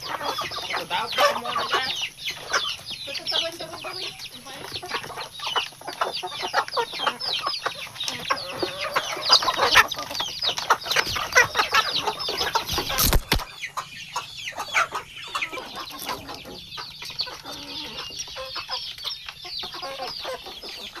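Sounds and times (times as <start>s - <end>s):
chickens clucking and chirping: 0.0s - 21.0s.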